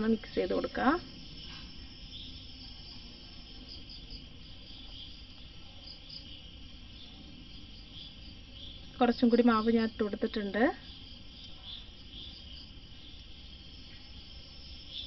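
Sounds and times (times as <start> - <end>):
faint insect chirping: 0.0 - 15.0
low steady background noise: 0.0 - 15.0.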